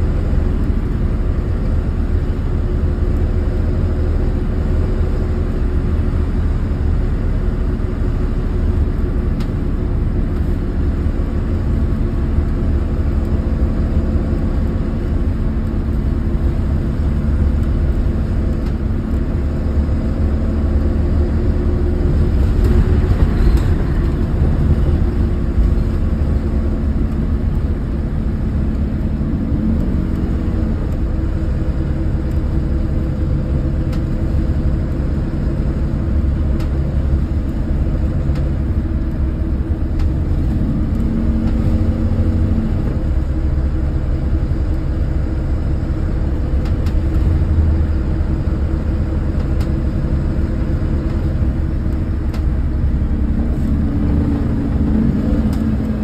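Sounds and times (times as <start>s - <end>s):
diesel bus engine running: 0.0s - 56.0s
road rumble: 0.0s - 56.0s.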